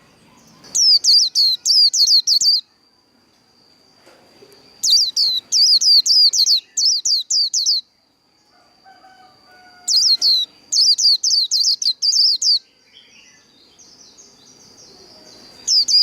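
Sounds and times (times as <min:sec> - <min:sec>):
faint steady high tone: 0:00.0 - 0:16.0.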